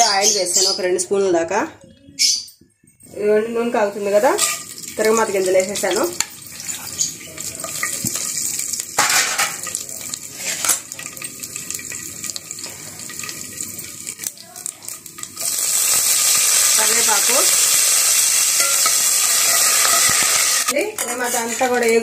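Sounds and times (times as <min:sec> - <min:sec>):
hot oil sizzling: 0:03.2 - 0:22.0
seeds crackling in oil: 0:03.9 - 0:22.0.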